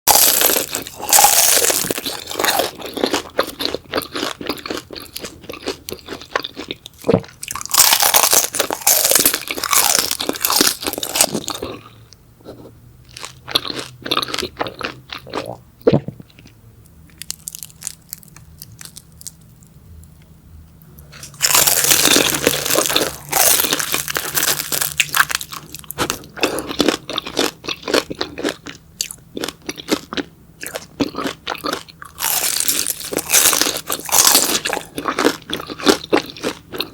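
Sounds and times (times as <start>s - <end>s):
crunchy food being chewed: 0.1s - 19.7s, 21.0s - 36.9s.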